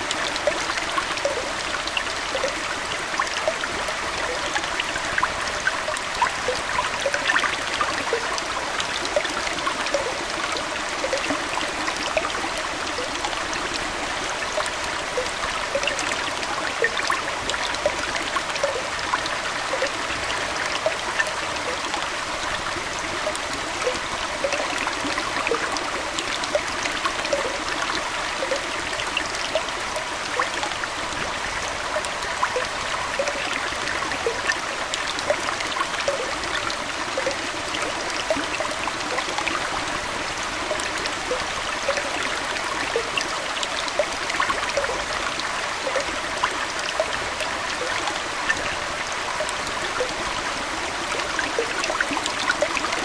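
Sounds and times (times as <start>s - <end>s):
aquarium water trickling: 0.0s - 53.0s
small bubbling plops: 0.0s - 53.0s.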